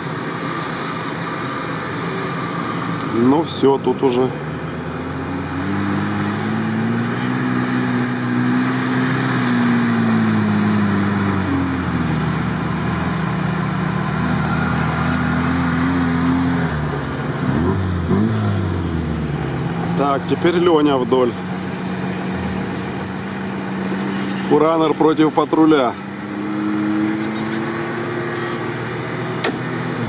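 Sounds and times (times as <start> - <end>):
vehicle engine labouring: 0.0 - 30.0.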